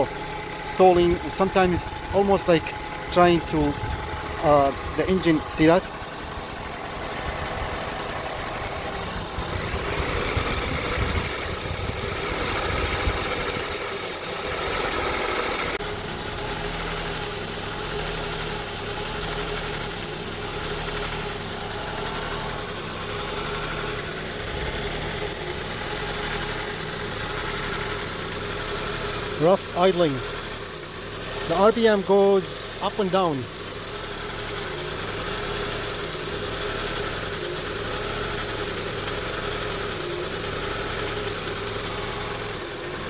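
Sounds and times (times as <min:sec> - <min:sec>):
car engine idling roughly: 0:00.0 - 0:43.0.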